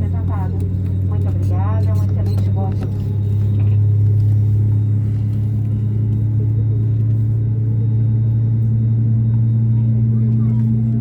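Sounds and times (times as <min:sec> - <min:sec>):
aircraft cabin hum: 0:00.0 - 0:11.0.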